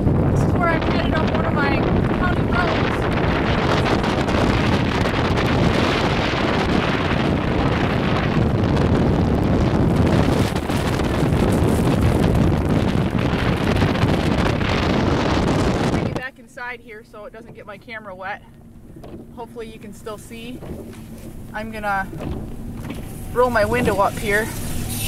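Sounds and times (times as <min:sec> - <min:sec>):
truck engine: 0:00.0 - 0:25.0
wind buffeting microphone: 0:00.0 - 0:25.0.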